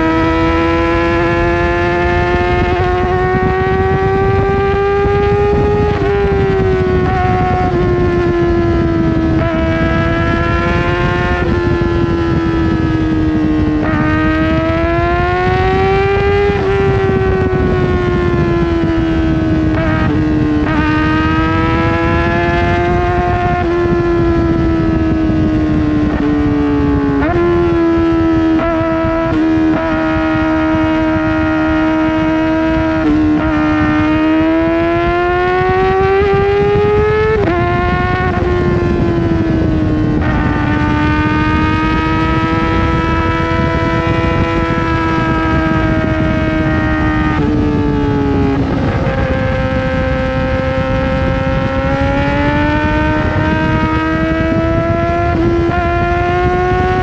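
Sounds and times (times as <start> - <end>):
motorcycle engine wailing at high revs: 0.0 - 57.0.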